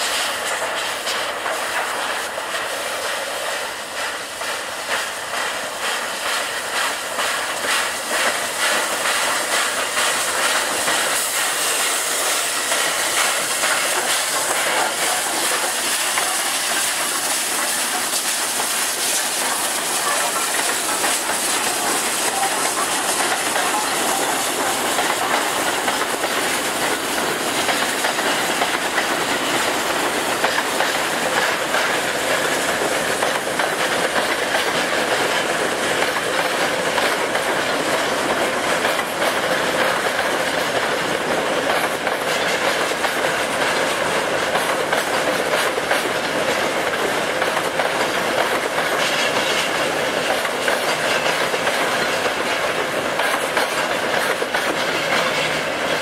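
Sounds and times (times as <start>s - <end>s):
steam hissing: 0.0s - 56.0s
train wheels clattering on rail joints: 0.0s - 56.0s.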